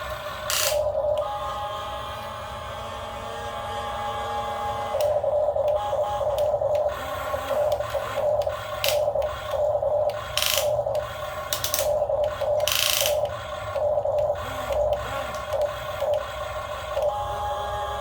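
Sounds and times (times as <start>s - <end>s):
buzzing whine: 0.0s - 18.0s
small electric motors whirring: 0.0s - 18.0s.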